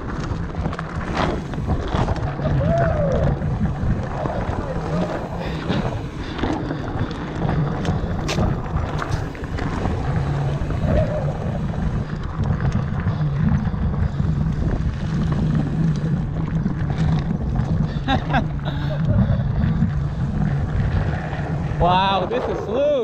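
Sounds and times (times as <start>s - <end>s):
bike rattling and knocking: 0.0s - 23.0s
tyres rumbling on dirt: 0.0s - 23.0s
wind buffeting microphone: 0.0s - 23.0s.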